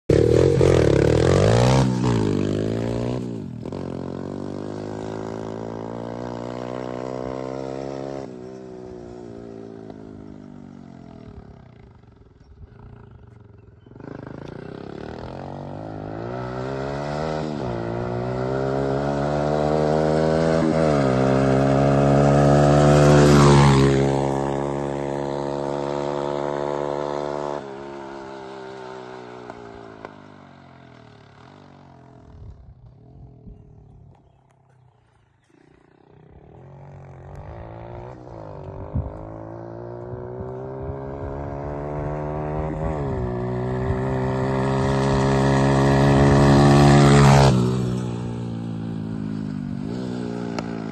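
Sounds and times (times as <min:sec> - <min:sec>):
quad bike engine revving: 0:00.1 - 0:34.4, 0:35.4 - 0:50.9.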